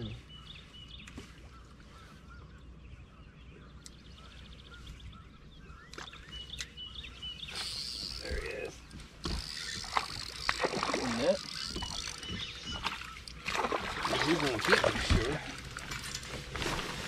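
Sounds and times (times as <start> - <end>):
distant birds calling: 0.0 - 17.0.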